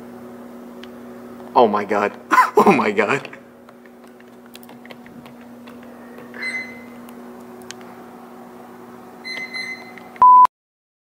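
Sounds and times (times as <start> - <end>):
low electrical hum: 0.0 - 10.2.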